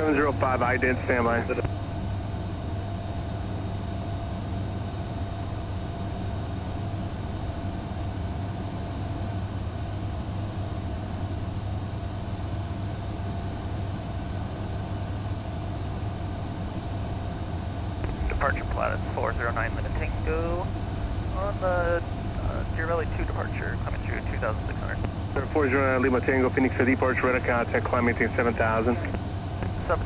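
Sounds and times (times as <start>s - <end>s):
faint steady whine: 0.0s - 30.0s
jet cabin airflow and hum: 0.0s - 30.0s.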